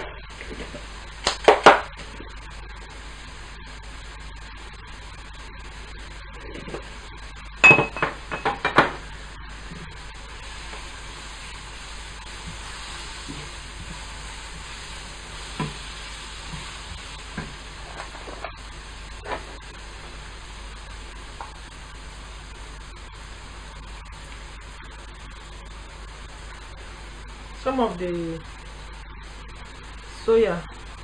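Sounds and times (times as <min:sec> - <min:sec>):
vegetables sizzling in frying pan: 0:00.0 - 0:31.0.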